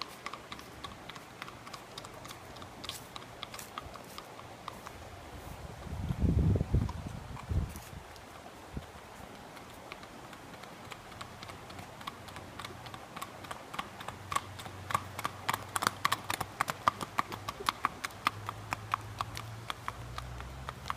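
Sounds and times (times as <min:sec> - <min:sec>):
horse hooves on asphalt: 0:00.0 - 0:20.9.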